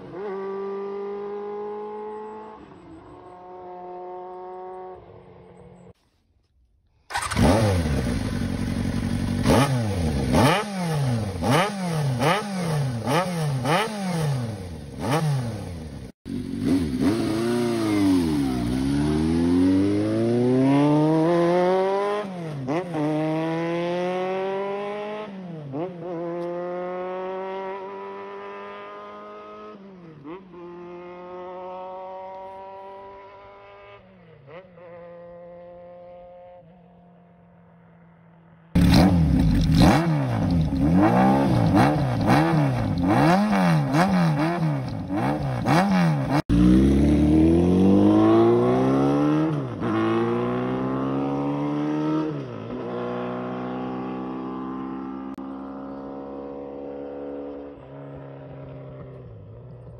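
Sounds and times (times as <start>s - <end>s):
motorcycle accelerating through gears: 0.0s - 6.0s, 7.1s - 59.9s
motorcycle engine revving: 0.0s - 6.0s, 7.1s - 59.9s.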